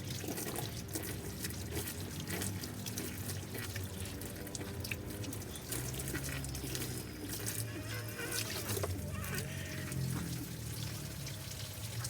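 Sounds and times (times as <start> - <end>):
water running and splashing: 0.2 - 12.0.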